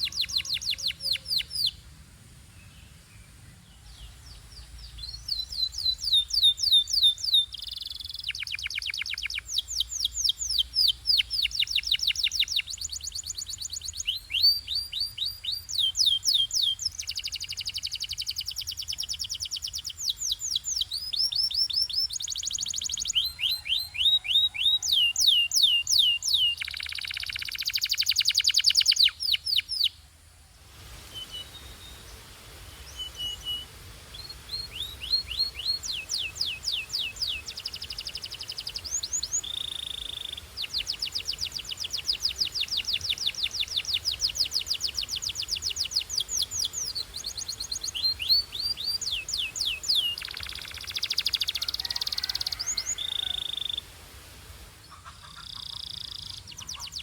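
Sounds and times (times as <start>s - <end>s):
canary singing trills: 0.0s - 1.8s, 3.2s - 30.0s, 31.1s - 54.0s, 54.9s - 57.0s.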